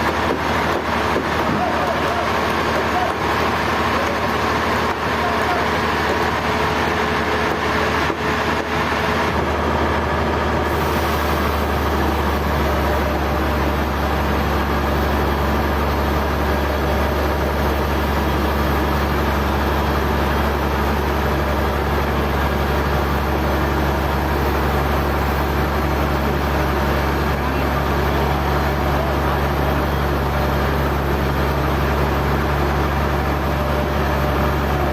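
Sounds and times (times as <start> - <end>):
heavy machinery humming: 0.0 - 34.9.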